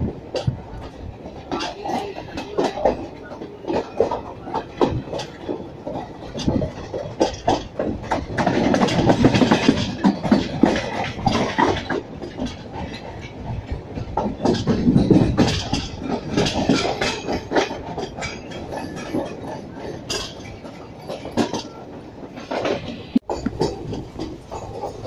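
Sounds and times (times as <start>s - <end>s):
train rumbling: 0.0s - 25.0s
wheels clattering over rails: 0.0s - 25.0s.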